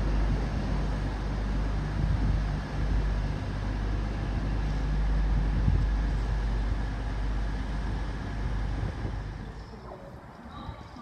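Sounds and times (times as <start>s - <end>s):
diesel locomotive engines throbbing: 0.0s - 10.3s.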